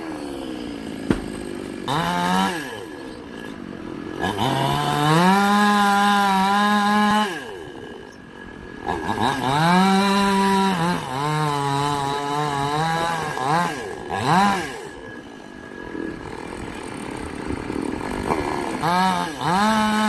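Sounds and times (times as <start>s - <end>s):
chainsaw revving and idling: 0.0s - 20.0s.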